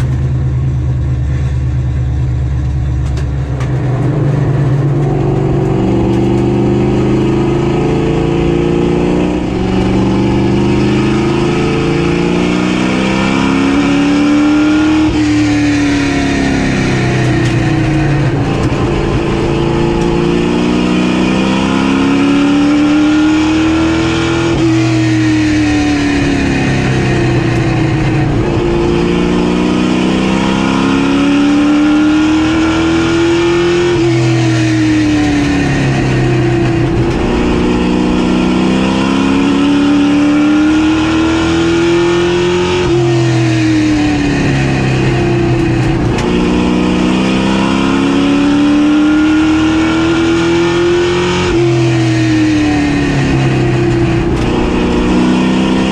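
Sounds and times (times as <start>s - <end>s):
race car engine revving: 0.9s - 55.9s.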